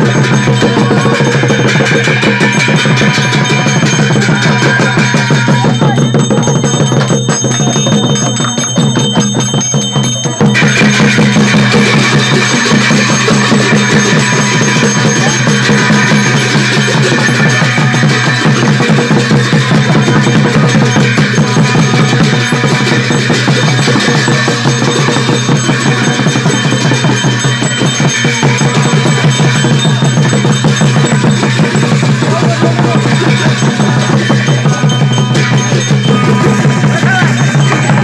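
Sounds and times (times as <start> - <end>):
music with drums and percussion: 0.0 - 38.0.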